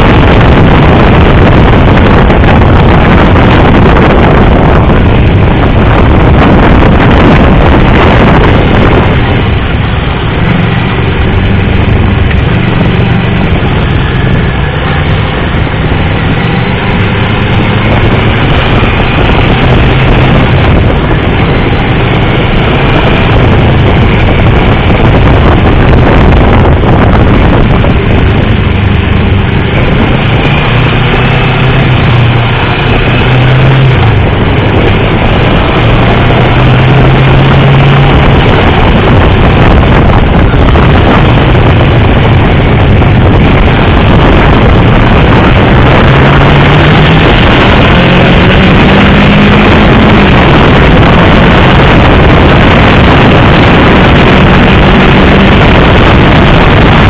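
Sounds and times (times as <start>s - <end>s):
loud steady rush: 0.0s - 57.0s
motorcycle engine revving: 0.0s - 57.0s.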